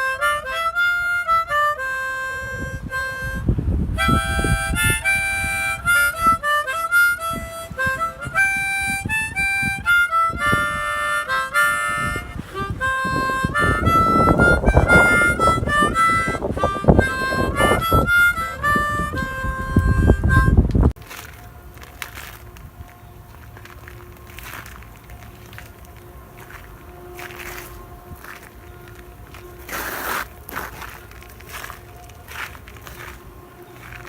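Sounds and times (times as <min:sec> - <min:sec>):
harmonica melody: 0:00.0 - 0:34.0.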